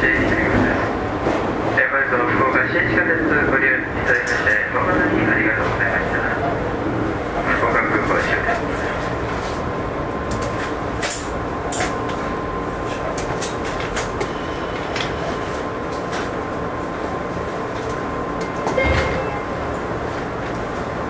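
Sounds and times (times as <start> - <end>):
electric train running rumble: 0.0 - 21.0.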